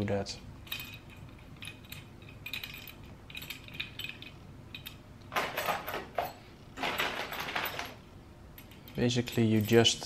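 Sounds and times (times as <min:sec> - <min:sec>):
metal parts clinking on metal: 0:00.6 - 0:10.0
metal parts scraping and rustling: 0:00.6 - 0:10.0.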